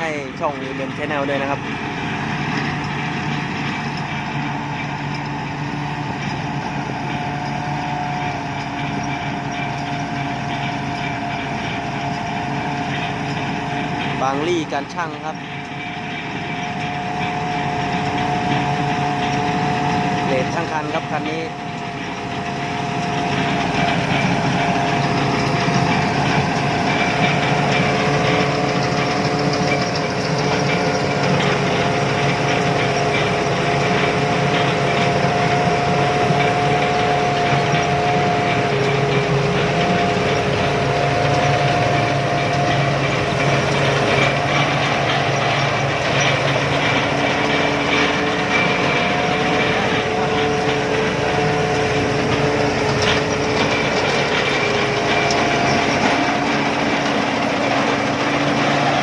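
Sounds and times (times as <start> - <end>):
combine harvester rumble: 0.0 - 59.0.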